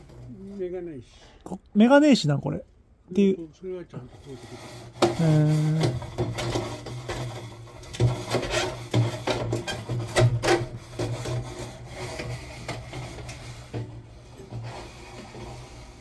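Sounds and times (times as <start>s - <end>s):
rod scraping inside metal flue pipe: 0.0s - 0.8s, 3.9s - 16.0s.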